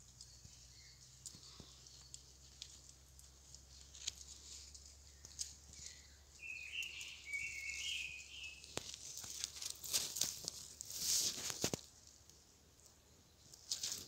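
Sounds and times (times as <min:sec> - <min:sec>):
light clicks and rustles: 0:00.0 - 0:06.2, 0:08.6 - 0:14.0.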